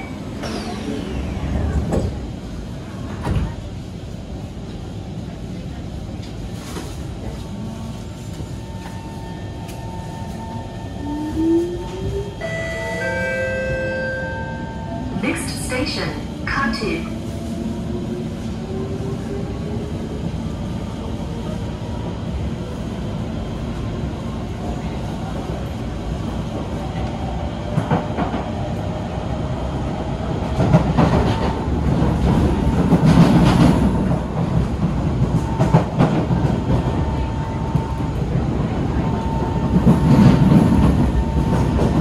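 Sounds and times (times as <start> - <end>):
train wheels rumbling on track: 0.0 - 42.0.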